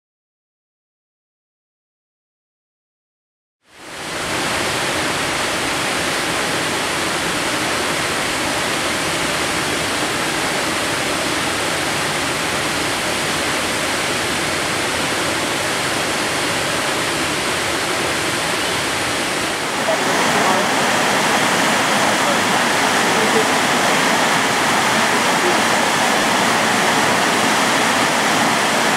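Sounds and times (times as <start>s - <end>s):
waterfall rushing: 3.7s - 28.9s.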